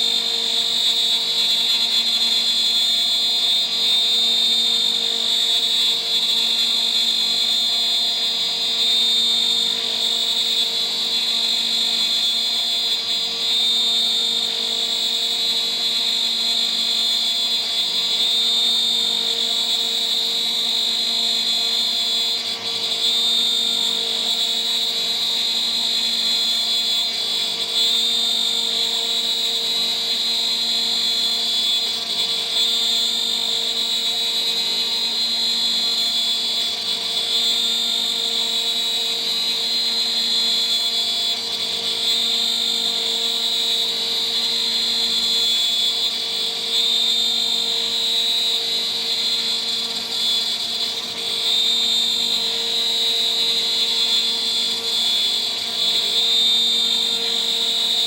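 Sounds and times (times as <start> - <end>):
router spindle cutting with whine: 0.0 - 58.0.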